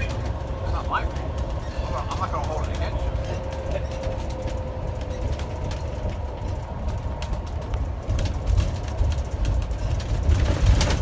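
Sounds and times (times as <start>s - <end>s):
bus body rattling: 0.0s - 11.0s
low road rumble: 0.0s - 11.0s.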